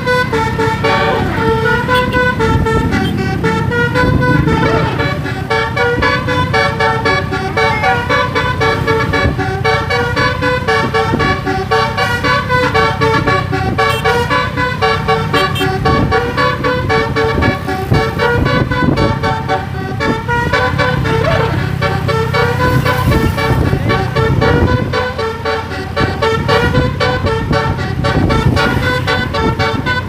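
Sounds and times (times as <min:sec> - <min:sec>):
multi-tone bus horn melody: 0:00.0 - 0:30.0.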